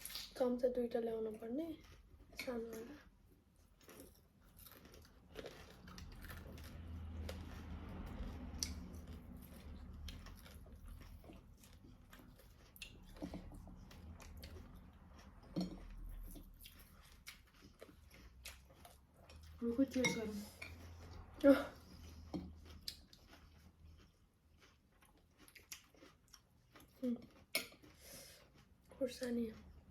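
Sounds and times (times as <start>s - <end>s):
person chewing food: 1.3s - 29.9s.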